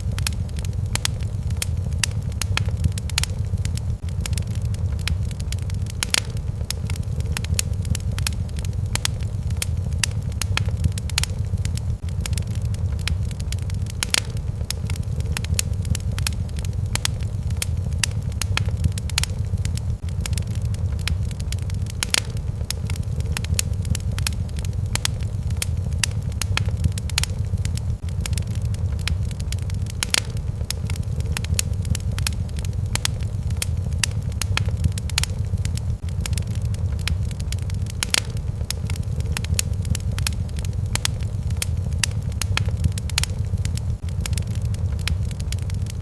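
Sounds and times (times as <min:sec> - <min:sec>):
low rumble: 0:00.0 - 0:46.0
wood fire crackling: 0:00.0 - 0:46.0.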